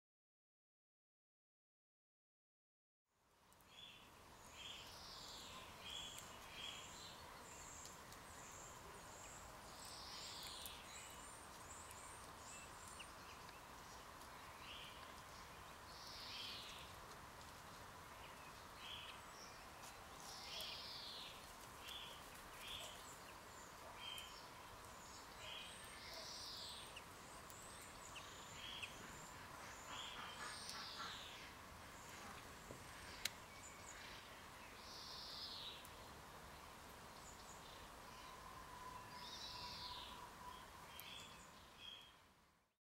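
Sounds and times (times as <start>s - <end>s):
small birds chirping: 3.4s - 42.4s.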